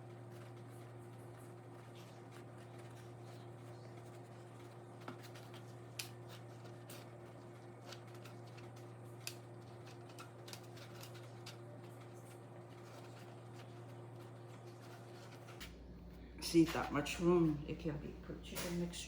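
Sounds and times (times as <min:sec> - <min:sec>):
crusty bread crackling and tearing: 0:00.0 - 0:16.4
steady low hum: 0:00.0 - 0:19.0.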